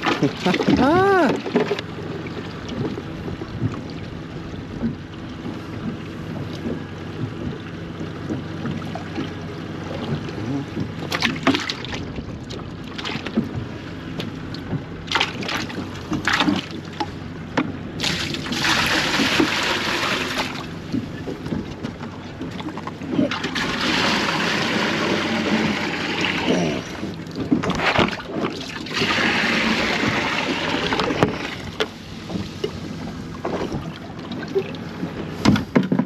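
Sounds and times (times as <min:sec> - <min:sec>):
boat engine low hum: 0:00.0 - 0:36.0.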